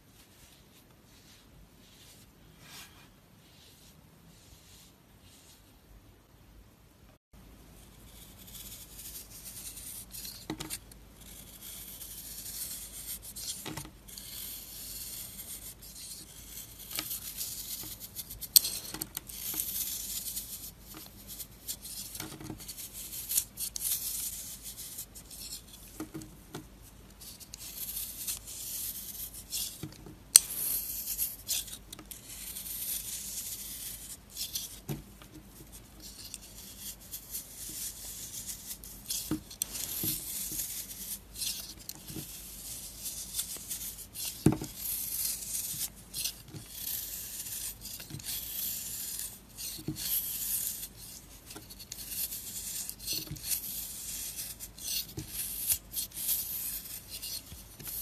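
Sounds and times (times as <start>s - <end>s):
knife shaving dry soap: 7.7s - 58.0s.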